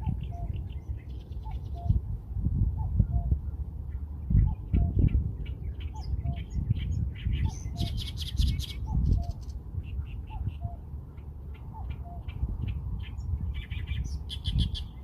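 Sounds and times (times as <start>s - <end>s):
birds chirping: 0.0s - 2.0s, 2.8s - 15.0s.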